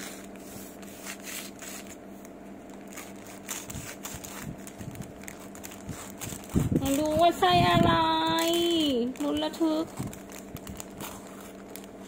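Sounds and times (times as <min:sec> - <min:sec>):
paper and bread crackling: 0:00.0 - 0:12.0.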